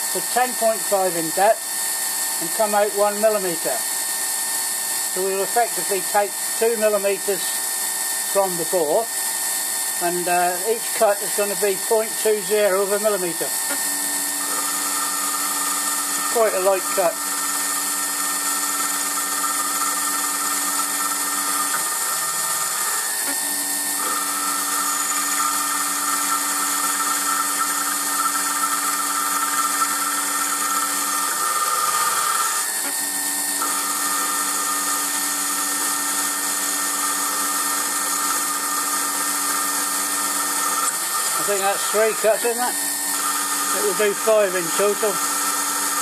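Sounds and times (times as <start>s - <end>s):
lathe whining: 0.0s - 46.0s.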